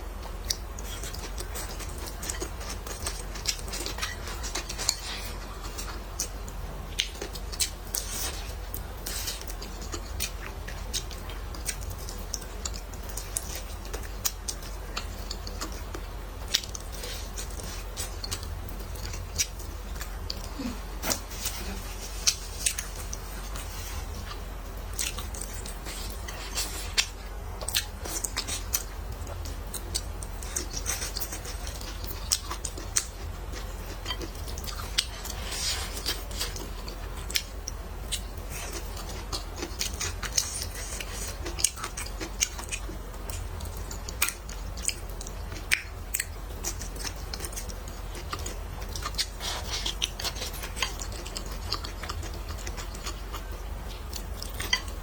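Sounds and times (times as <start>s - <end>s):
steady low hum: 0.0s - 55.0s
person chewing and biting: 0.4s - 55.0s.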